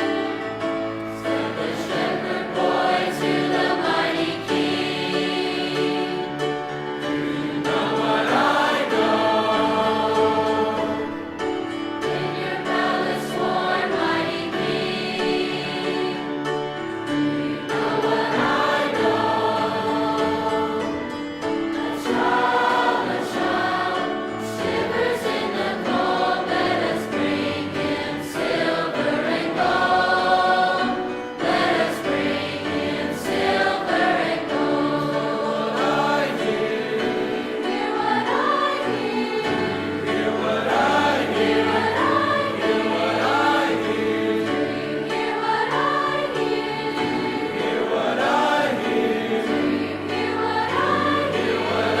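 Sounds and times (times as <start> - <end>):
choir singing in parts: 0.0 - 52.0.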